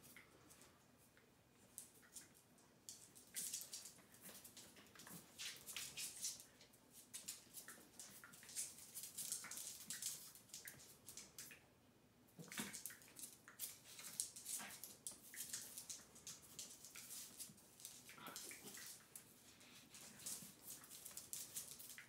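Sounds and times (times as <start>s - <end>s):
dogs scrabbling on hard floor: 2.9s - 11.6s, 12.4s - 22.0s.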